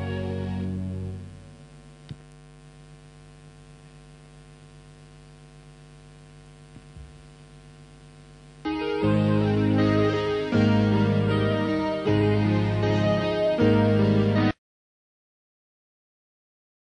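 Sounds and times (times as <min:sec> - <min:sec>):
electrical mains hum: 0:00.0 - 0:14.6.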